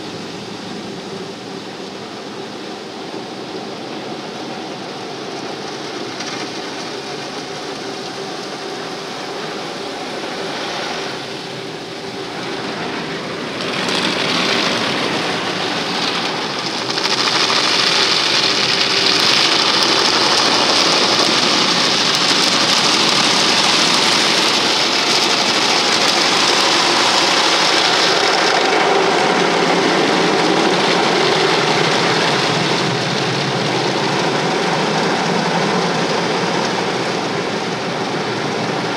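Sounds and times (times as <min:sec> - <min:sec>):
car wash spray and brushes: 0:00.0 - 0:38.9
low machine hum: 0:00.0 - 0:38.9.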